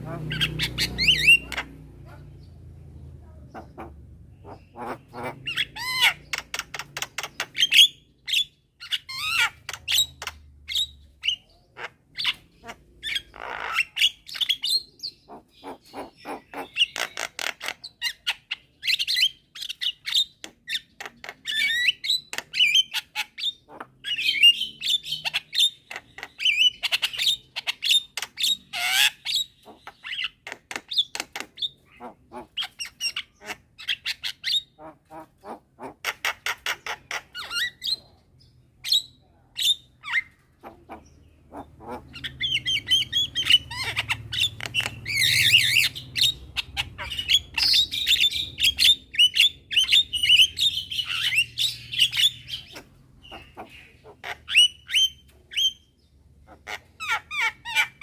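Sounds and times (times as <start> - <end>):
mynas chirping and squawking: 0.0 - 58.0.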